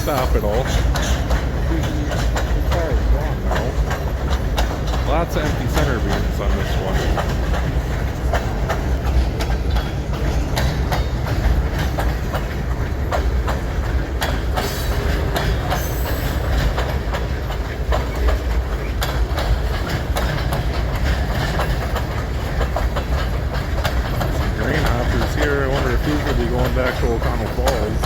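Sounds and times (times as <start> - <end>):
freight train rumble: 0.0 - 28.0
train wheels clacking: 0.0 - 28.0.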